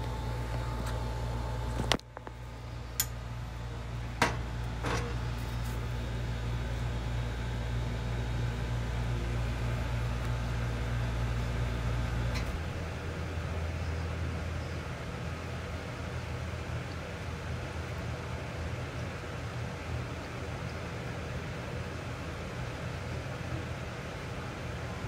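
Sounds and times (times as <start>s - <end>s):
low electric hum: 0.0s - 25.0s.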